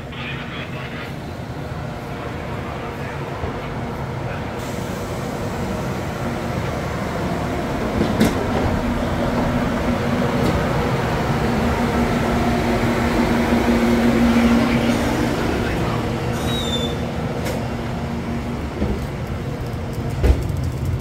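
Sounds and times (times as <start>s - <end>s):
train idling rumble and hum: 0.0s - 21.0s.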